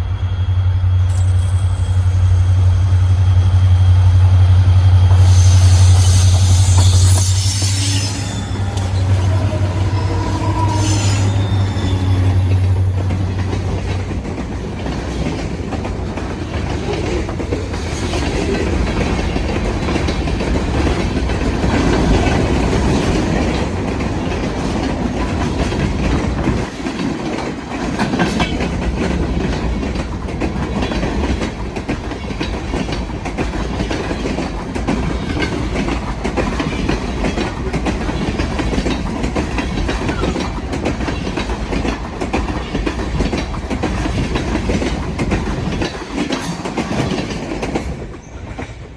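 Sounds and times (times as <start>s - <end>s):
diesel locomotive drone: 0.0s - 48.9s
rolling train cars rumble: 0.0s - 48.9s
train wheels clacking on rails: 0.9s - 48.9s.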